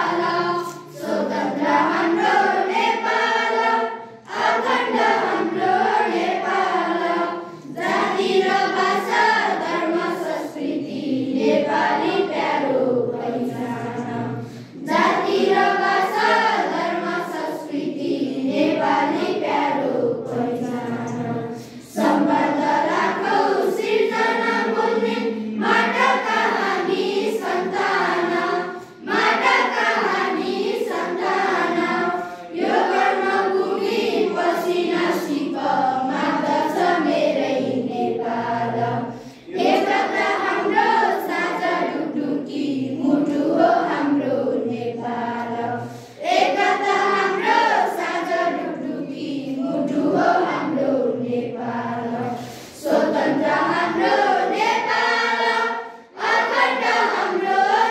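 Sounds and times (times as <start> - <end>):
children singing in chorus: 0.0 - 57.9.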